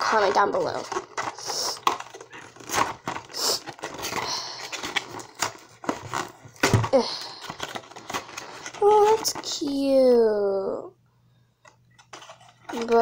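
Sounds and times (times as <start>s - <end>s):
cardboard tearing and rustling: 0.0s - 10.2s, 12.0s - 13.0s.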